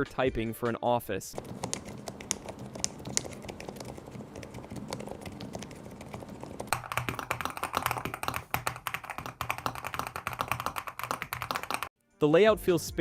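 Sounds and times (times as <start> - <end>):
mechanical keyboard typing: 1.4 - 11.9.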